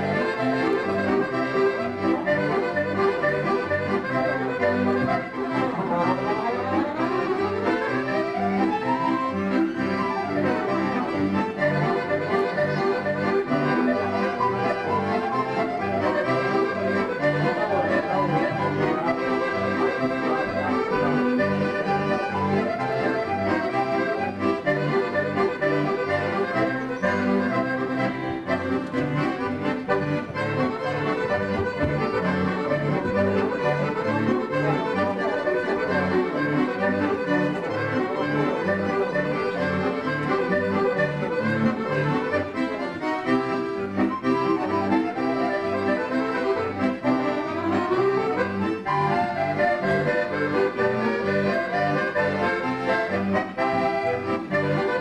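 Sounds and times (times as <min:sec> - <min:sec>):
accordions playing a polka: 0:00.0 - 0:55.0.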